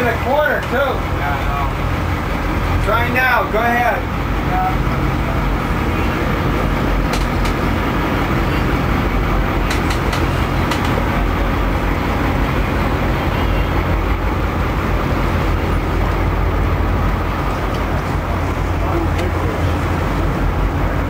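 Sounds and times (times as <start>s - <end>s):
boat engine droning: 0.0s - 21.0s
broad rushing noise: 0.0s - 21.0s.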